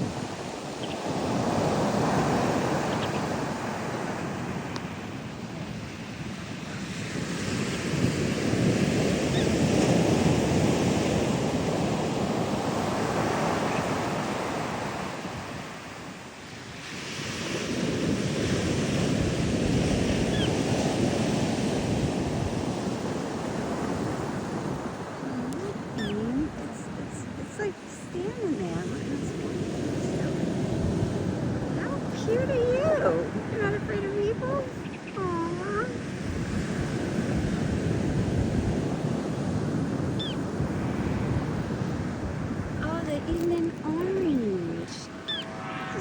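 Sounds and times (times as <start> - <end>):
ocean surf breaking: 0.0 - 46.0
wind buffeting microphone: 0.0 - 46.0.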